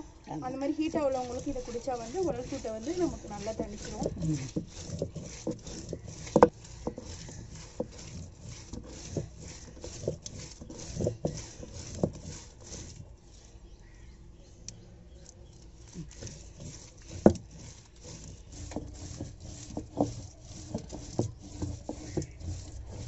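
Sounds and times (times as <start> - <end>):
stone roller scraping on stone: 0.0 - 14.1, 15.4 - 23.0
wet mash being handled: 0.0 - 23.0.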